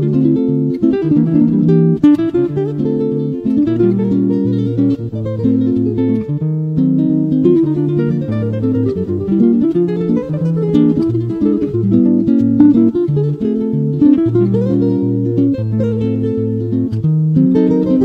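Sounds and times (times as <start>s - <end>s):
guitar playing a dance tune: 0.0s - 18.0s.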